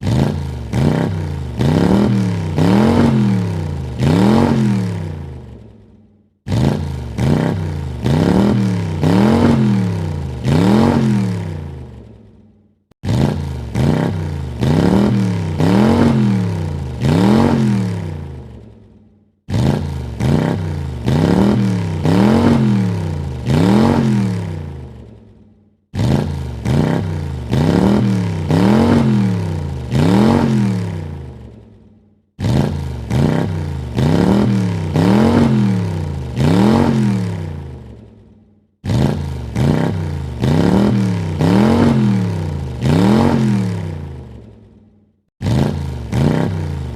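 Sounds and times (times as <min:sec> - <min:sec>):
car engine revving: 0:00.0 - 0:05.7, 0:06.5 - 0:12.1, 0:13.0 - 0:18.7, 0:19.5 - 0:25.2, 0:25.9 - 0:31.6, 0:32.4 - 0:38.0, 0:38.8 - 0:44.6, 0:45.4 - 0:46.9.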